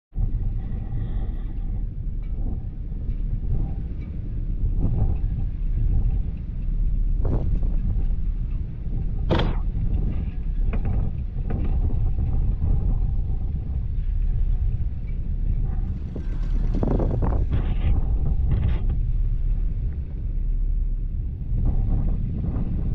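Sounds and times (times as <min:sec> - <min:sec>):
low rumble: 0:00.1 - 0:22.9
wind buffeting microphone: 0:00.1 - 0:22.9.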